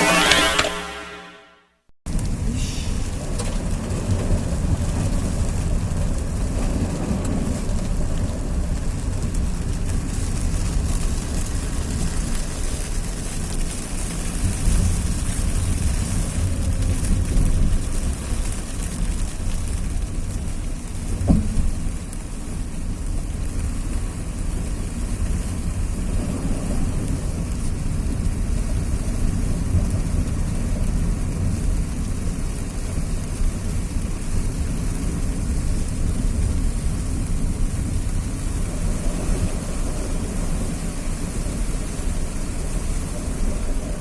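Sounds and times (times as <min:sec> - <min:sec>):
rain pouring down: 0:02.1 - 0:44.0.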